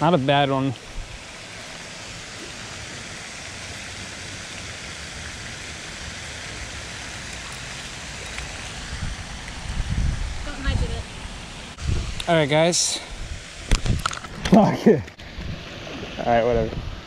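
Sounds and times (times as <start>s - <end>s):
fountain water splashing: 0.0s - 14.8s.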